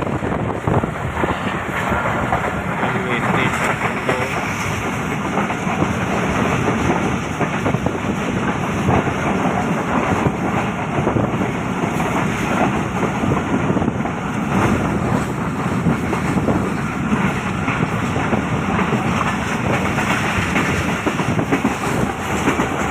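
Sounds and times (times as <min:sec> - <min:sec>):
rush of air from train: 0:00.0 - 0:22.9
train wheels clattering on rails: 0:00.0 - 0:22.9.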